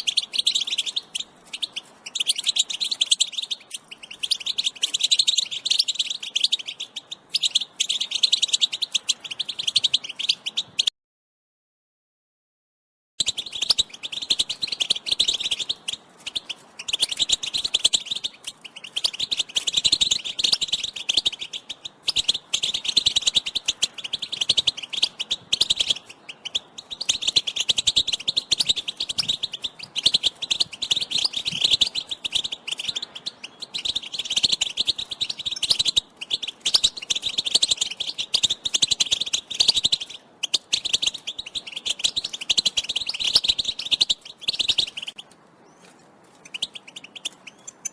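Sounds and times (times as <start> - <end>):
goldfinch twittering calls: 0.0 - 10.9, 13.2 - 47.9.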